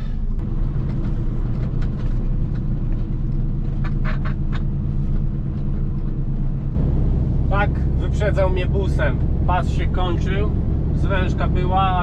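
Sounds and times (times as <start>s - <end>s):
diesel engine droning in cab: 0.0s - 12.0s.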